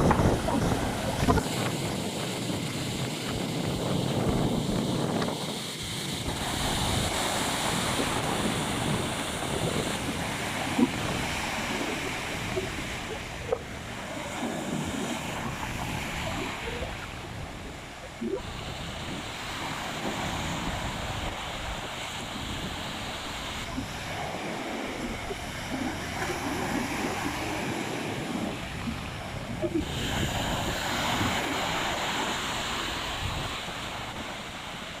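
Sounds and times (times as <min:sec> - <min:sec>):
sea waves breaking on shore: 0:00.0 - 0:35.0
wind blowing across microphone: 0:00.0 - 0:35.0.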